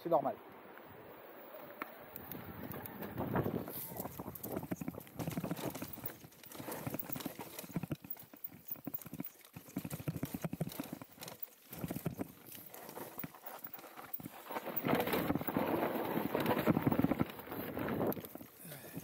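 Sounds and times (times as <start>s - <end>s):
bike rattling on dirt trail: 2.2s - 19.0s.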